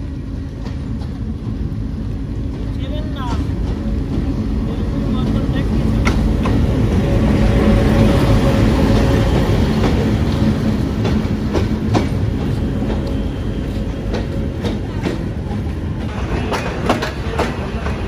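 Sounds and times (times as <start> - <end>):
train rumbling on track: 0.0 - 18.0
wheels clacking over rail joints: 2.4 - 18.0.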